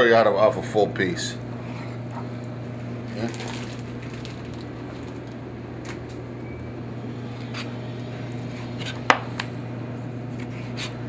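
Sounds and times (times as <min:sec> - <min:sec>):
kitchen machinery hum: 0:00.0 - 0:11.0.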